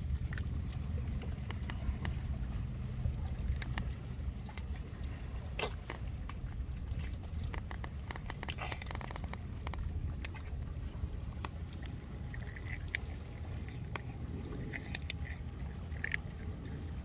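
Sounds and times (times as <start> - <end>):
cats crunching dry kibble: 0.0 - 17.0
low rumble of wind or sea: 0.0 - 17.0.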